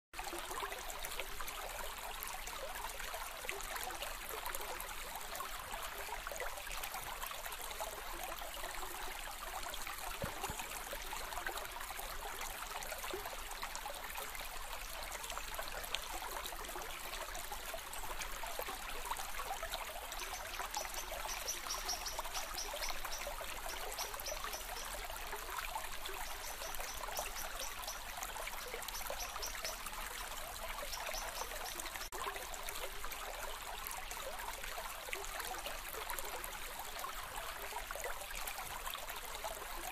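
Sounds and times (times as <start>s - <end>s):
river water flowing: 0.2s - 39.9s.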